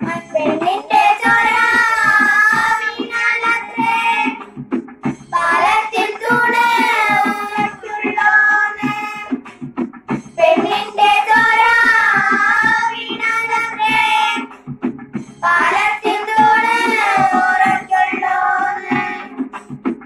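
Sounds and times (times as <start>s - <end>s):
girls singing together: 0.0s - 4.4s, 5.3s - 9.4s, 10.4s - 14.5s, 15.4s - 19.4s
percussion beat: 0.0s - 20.0s.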